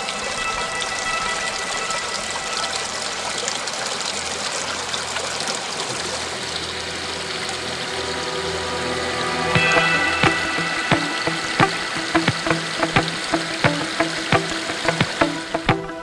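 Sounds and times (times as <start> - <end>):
stream trickling over stones: 0.0 - 15.6.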